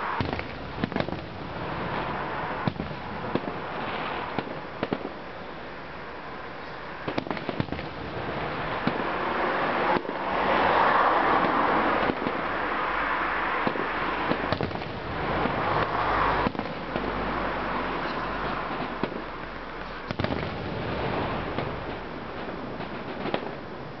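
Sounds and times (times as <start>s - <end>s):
firework bangs: 0.0s - 5.7s, 7.0s - 24.0s
loud firework crackling: 0.0s - 24.0s.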